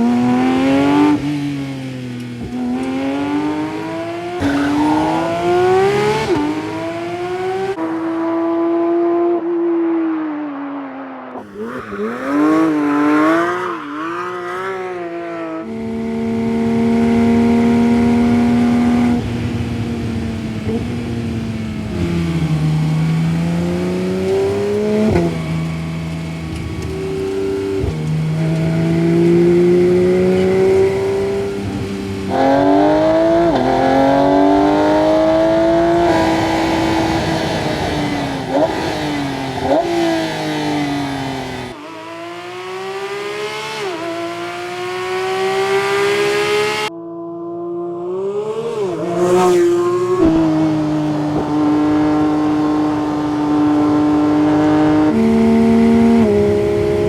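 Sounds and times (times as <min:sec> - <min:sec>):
car engine revving and accelerating: 0:00.0 - 0:57.0.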